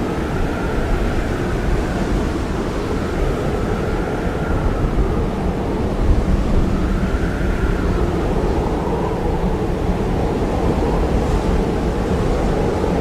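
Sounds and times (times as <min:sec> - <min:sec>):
blizzard wind blowing hard: 0:00.0 - 0:13.0.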